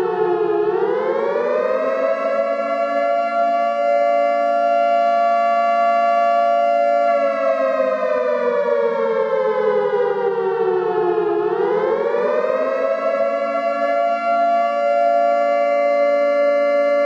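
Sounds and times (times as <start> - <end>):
air-raid warning siren wailing: 0.0 - 17.0.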